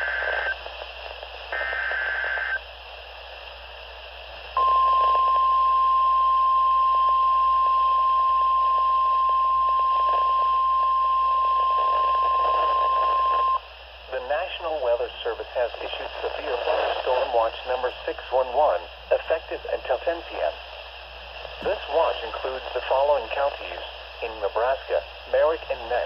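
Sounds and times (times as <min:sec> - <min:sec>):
faint radio hiss: 0:00.0 - 0:26.0.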